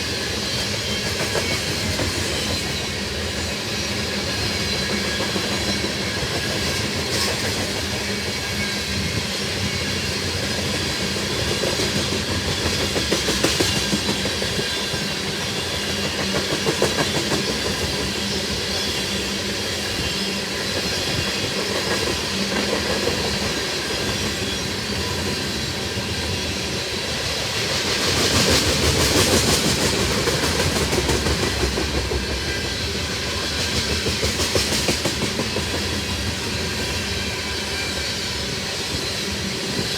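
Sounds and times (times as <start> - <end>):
train rumble: 0.0 - 39.9
train wheels clattering: 0.0 - 39.9.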